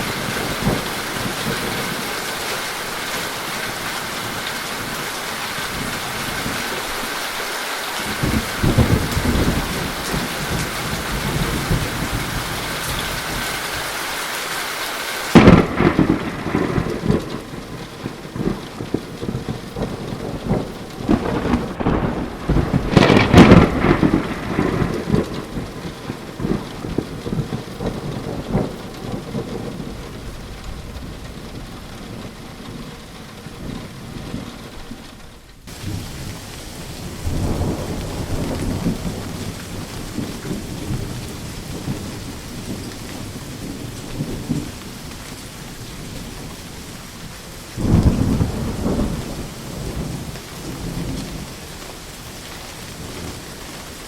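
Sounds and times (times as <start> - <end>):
rolling thunder: 0.0 - 7.1, 8.0 - 14.0, 15.2 - 51.7
rain falling: 0.0 - 54.0.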